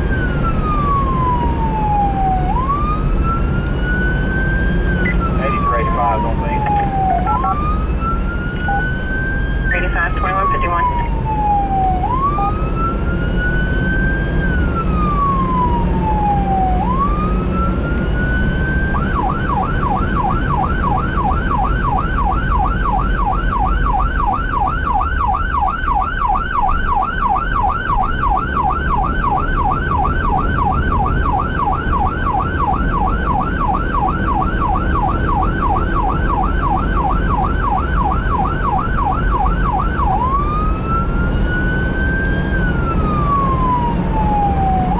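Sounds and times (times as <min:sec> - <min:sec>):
emergency vehicle siren: 0:00.0 - 0:44.9
engine and road rumble: 0:00.0 - 0:44.9.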